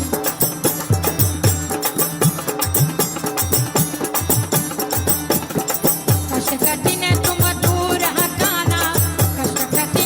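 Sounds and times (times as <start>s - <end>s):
jingling percussion: 0.0s - 10.0s.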